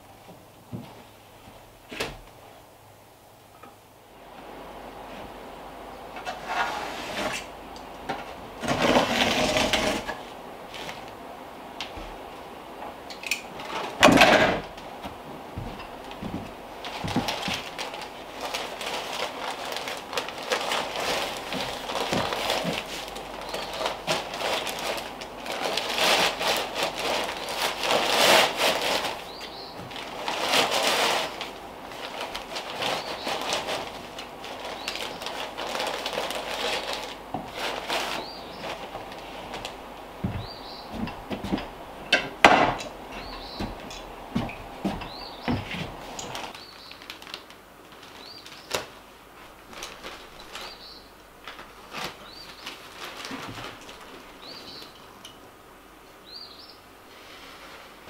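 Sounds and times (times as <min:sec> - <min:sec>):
insulation rustling and scraping: 0:04.2 - 0:55.2, 0:57.0 - 0:58.0.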